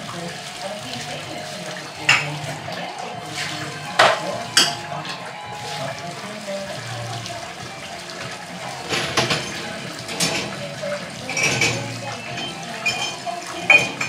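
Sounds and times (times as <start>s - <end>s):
water running from tap: 0.0s - 14.0s.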